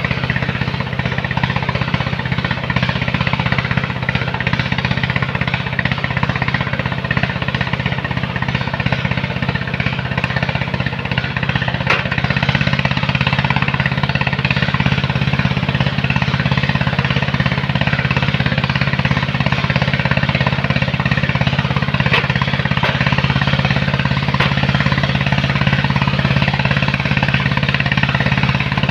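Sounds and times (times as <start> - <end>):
machine engine running: 0.0 - 28.9.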